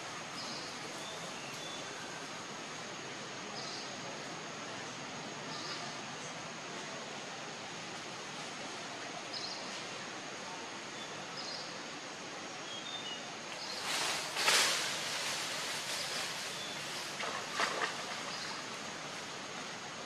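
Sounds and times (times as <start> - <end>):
leaves and branches rustling: 0.0 - 20.0
steady hiss: 0.0 - 20.0.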